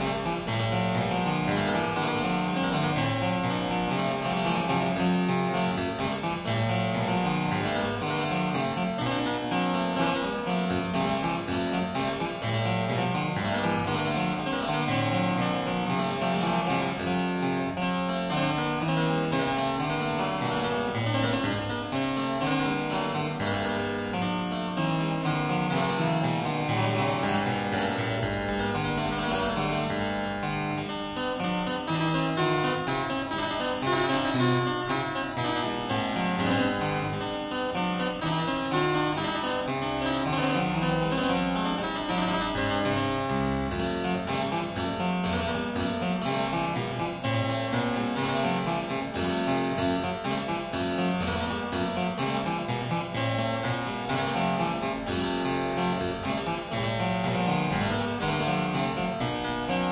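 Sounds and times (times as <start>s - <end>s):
harpsichord-like keyboard music: 0.0s - 59.9s.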